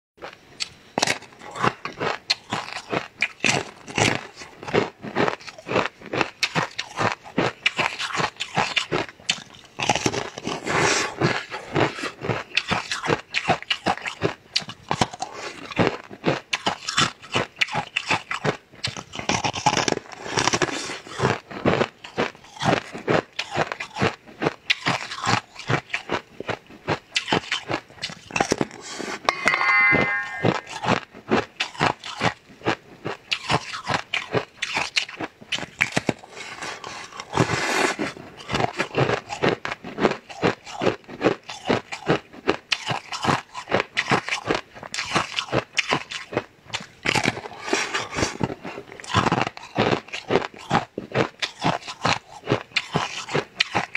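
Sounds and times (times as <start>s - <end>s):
chewing jelly wet squelches: 1.5s - 29.1s, 31.2s - 53.9s.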